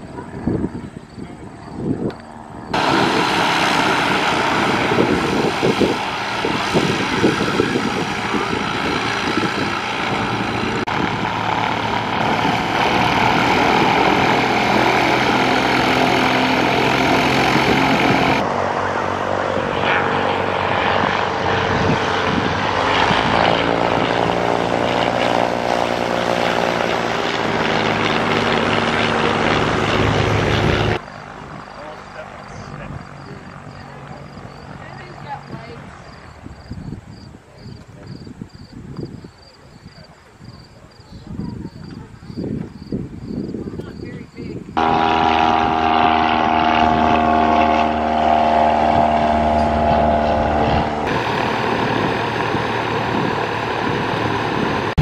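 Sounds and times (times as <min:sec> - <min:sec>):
plane engine drone passing: 0:00.0 - 0:55.0
propeller plane engine running: 0:00.0 - 0:55.0.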